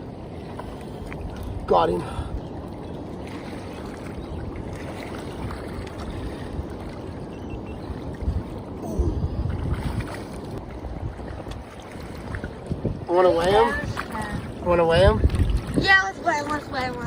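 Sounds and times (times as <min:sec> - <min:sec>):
faint water: 0:00.0 - 0:17.0
wind buffeting microphone: 0:00.0 - 0:17.0.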